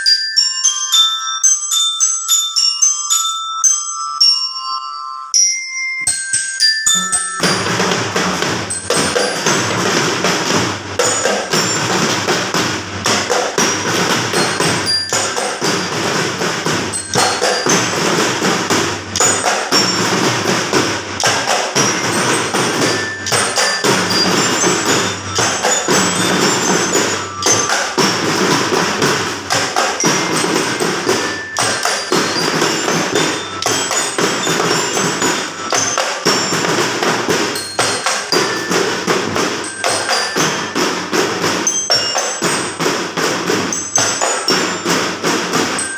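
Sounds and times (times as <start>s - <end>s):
mallet percussion melody: 0.0s - 45.9s
drum thumps: 7.4s - 45.9s.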